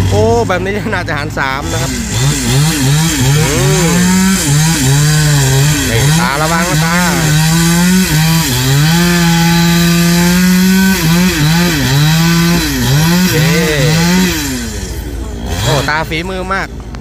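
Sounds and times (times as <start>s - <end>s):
chainsaw cutting wood: 1.6s - 16.2s.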